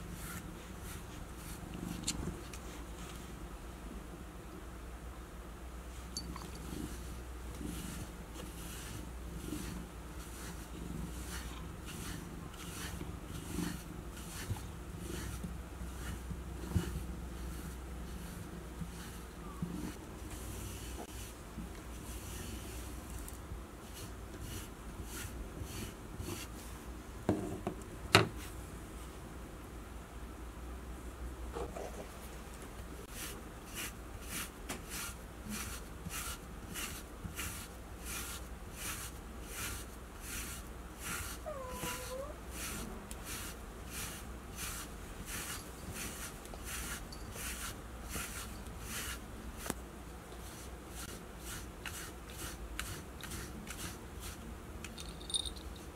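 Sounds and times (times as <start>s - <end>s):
brush through cat fur: 0.0s - 3.4s, 5.9s - 26.8s, 33.0s - 54.5s.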